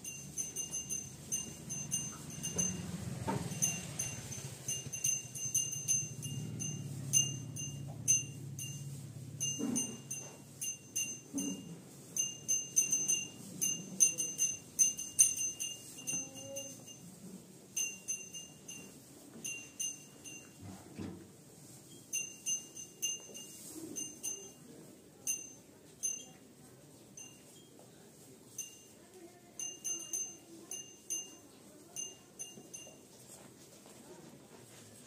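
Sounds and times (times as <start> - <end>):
cattle bell jingling: 0.0 - 20.6, 21.6 - 26.4, 28.5 - 33.3.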